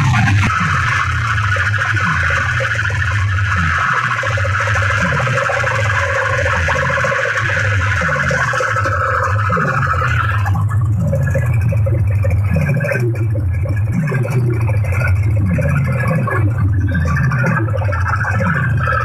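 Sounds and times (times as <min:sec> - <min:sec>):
bass notes sliding down: 0:00.0 - 0:19.0
loud bass-heavy music: 0:00.0 - 0:19.0.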